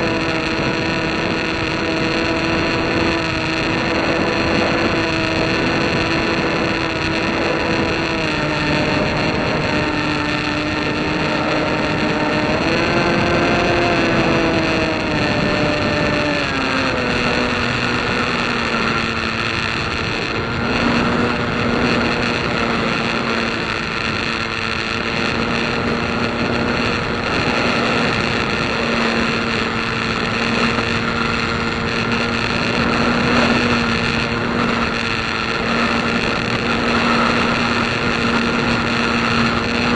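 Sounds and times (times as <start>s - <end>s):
heavy wind noise: 0.0s - 39.9s
light aircraft engine running: 0.0s - 39.9s.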